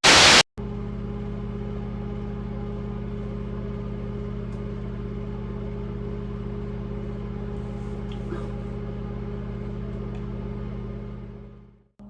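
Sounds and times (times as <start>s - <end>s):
low mechanical hum: 0.6s - 12.0s.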